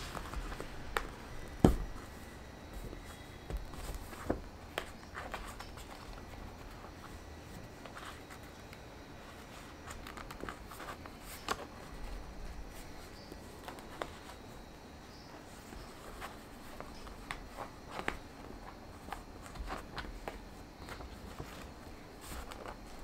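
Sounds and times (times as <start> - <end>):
paper rustling: 0.0 - 14.6, 15.3 - 23.0.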